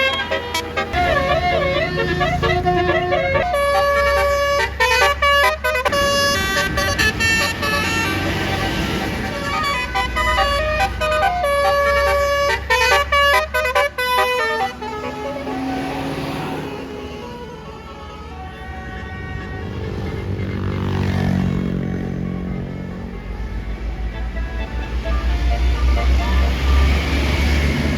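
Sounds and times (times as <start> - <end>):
bus engine rumble: 0.0 - 27.9
bus horn playing melody: 0.0 - 27.9.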